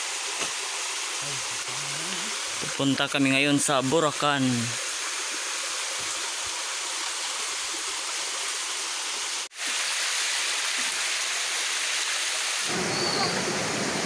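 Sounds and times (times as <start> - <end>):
stream cascading over boulders: 0.0 - 14.0.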